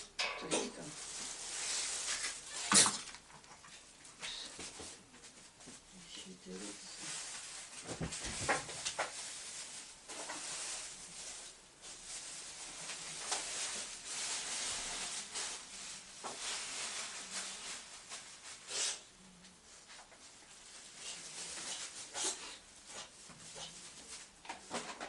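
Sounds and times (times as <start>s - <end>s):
rustling handling noises: 0.2s - 25.0s.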